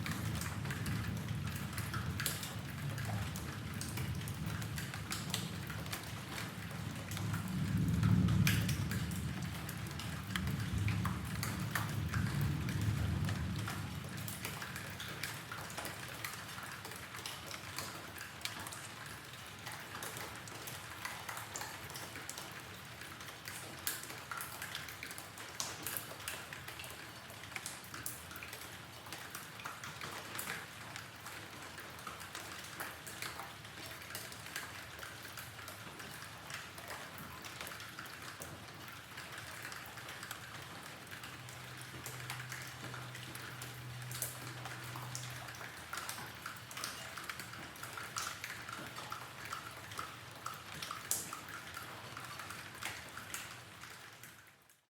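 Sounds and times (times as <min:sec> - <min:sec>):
rain drops pattering: 0:00.0 - 0:54.9.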